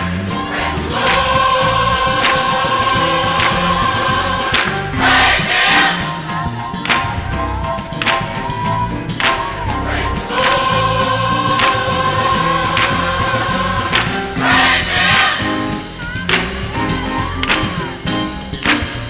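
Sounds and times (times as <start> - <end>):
drum hits: 0.0 - 19.0
gospel choir singing: 0.0 - 19.0
live band: 0.0 - 19.0.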